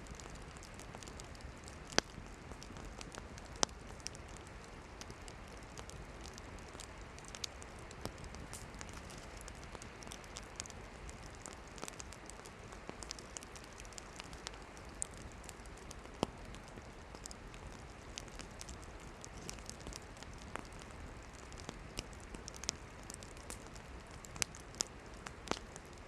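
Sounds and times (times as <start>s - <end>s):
campfire crackling: 0.0s - 26.0s
fire pops and snaps: 0.0s - 26.0s
hiss of flames: 0.0s - 26.0s.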